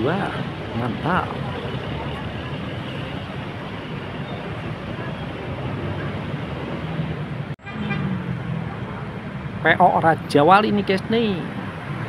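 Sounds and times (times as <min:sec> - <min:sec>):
bus engine: 0:00.0 - 0:12.0
street traffic noise: 0:00.0 - 0:12.0.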